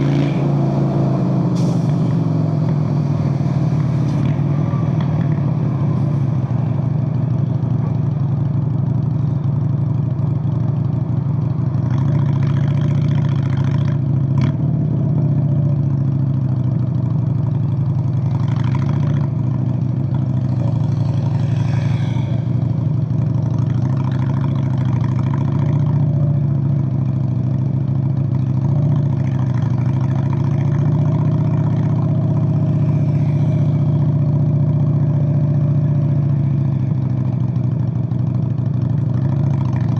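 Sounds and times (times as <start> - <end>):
motorcycle engine running: 2.0 - 39.9.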